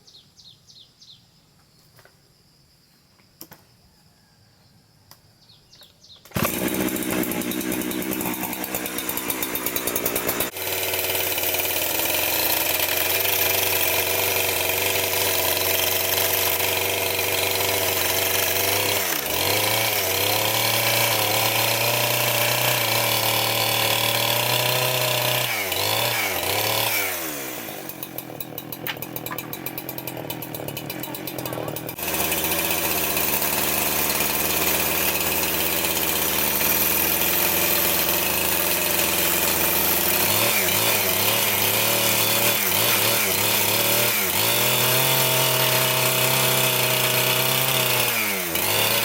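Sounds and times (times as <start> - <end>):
power saw cutting wood: 6.3 - 49.0.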